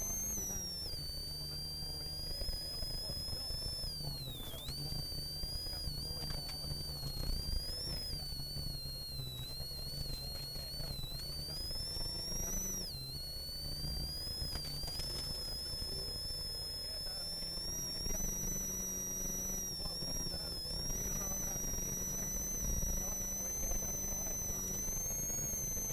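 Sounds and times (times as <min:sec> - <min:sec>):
rally car engine running hard: 0:00.0 - 0:25.9
turbo whine: 0:00.0 - 0:25.9.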